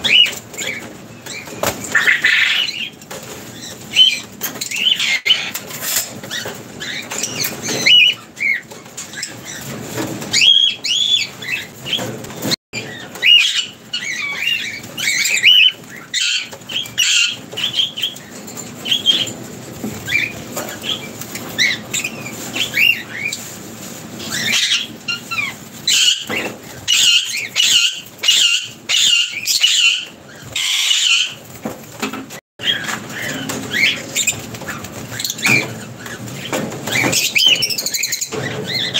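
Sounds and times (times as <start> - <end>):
birds chirping and squeaking: 0.0 - 38.9
wings flapping: 0.0 - 38.9.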